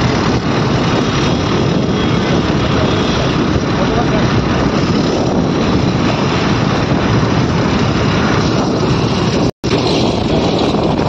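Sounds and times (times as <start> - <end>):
scooter engine: 0.0 - 11.0
wind buffeting microphone: 0.0 - 11.0.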